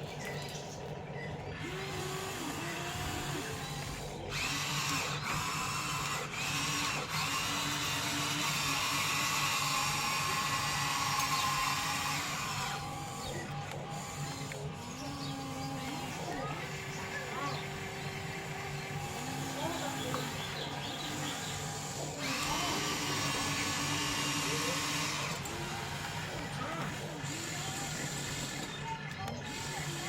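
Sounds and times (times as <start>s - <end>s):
toy excavator motors whining: 0.0s - 30.0s.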